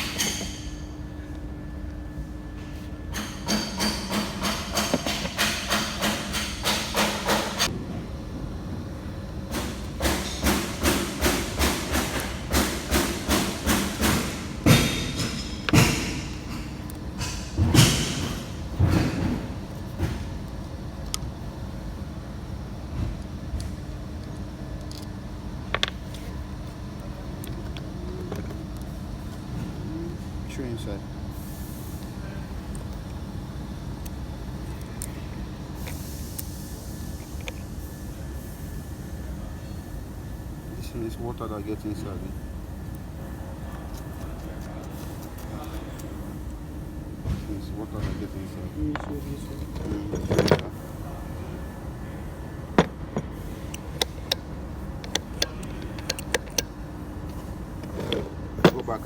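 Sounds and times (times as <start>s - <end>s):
low mechanical rumble: 0.0s - 59.0s.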